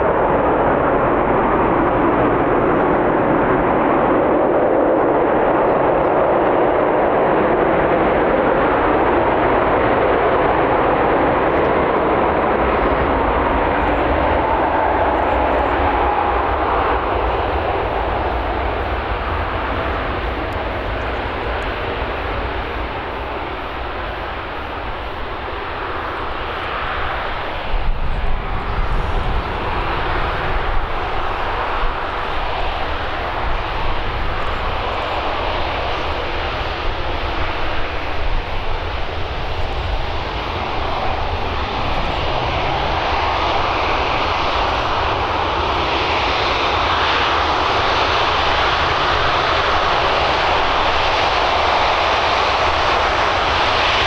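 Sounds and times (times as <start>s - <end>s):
deep rumble: 0.0s - 45.8s
jet engines running: 0.0s - 54.0s.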